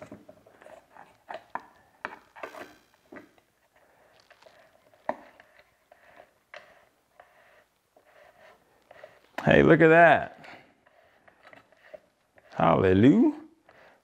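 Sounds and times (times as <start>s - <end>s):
faint clicks and scrapes: 0.0s - 9.5s, 10.4s - 12.6s.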